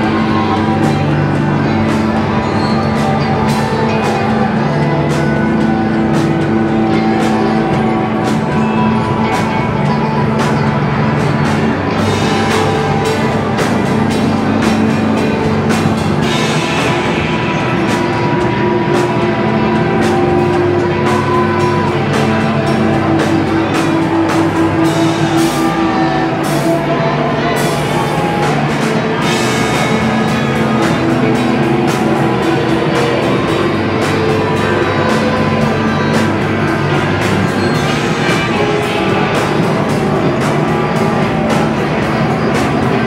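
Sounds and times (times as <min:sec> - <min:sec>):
distorted guitars: 0:00.0 - 0:43.0
pounding drums: 0:00.0 - 0:43.0.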